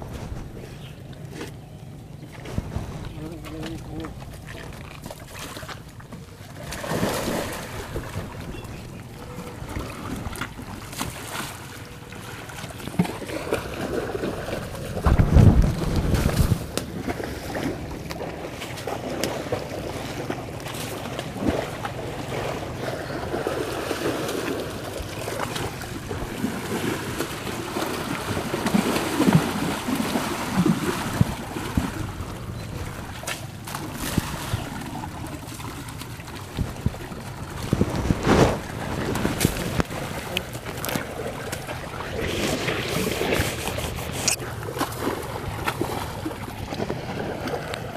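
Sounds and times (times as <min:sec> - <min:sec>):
muddy water splashing: 0:00.0 - 0:47.9.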